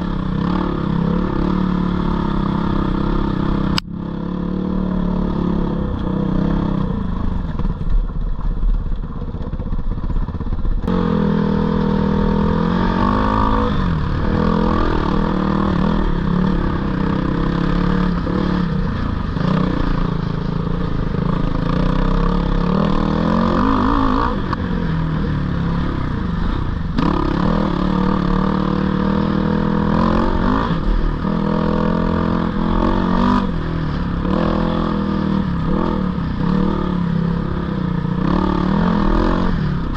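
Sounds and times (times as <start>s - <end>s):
dirt bike engine revving: 0.0s - 7.1s, 10.1s - 39.9s.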